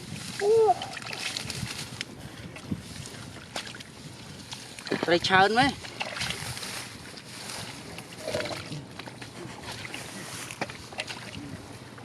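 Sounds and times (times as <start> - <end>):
hands sloshing in muddy water: 0.0 - 11.9.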